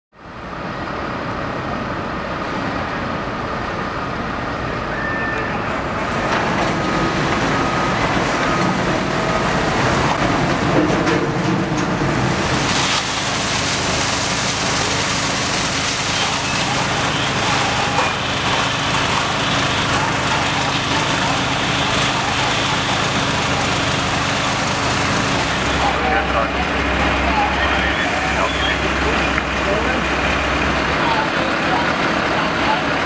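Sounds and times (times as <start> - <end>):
traffic rumble: 0.2 - 33.0.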